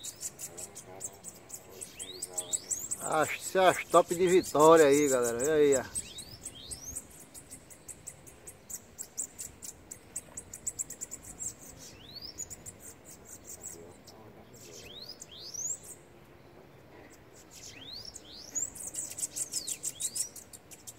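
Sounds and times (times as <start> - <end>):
birds singing high trills: 0.0 - 20.9.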